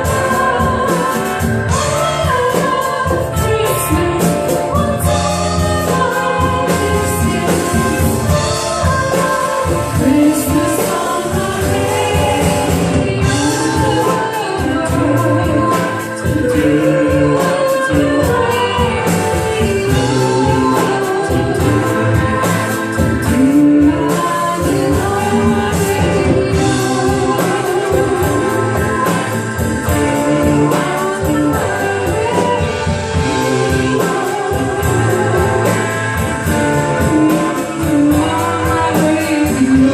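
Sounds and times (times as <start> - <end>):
instrumental backing with beat: 0.0 - 39.9
voices singing: 0.0 - 39.9.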